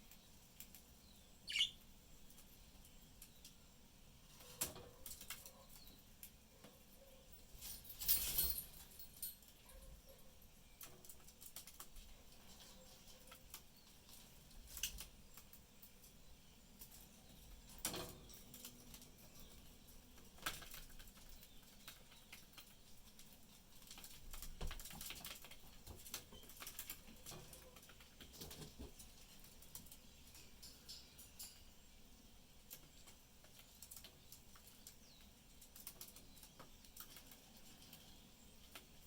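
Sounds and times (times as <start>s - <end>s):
birds pecking at food: 0.0s - 3.6s, 4.2s - 7.2s, 10.7s - 39.0s.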